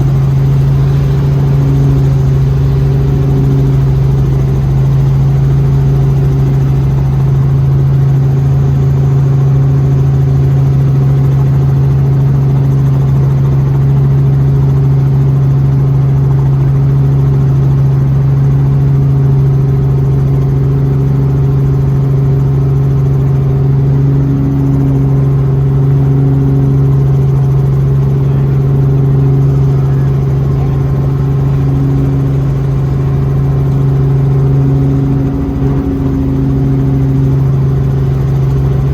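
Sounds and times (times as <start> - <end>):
helicopter engine and rotors drone: 0.0 - 38.9.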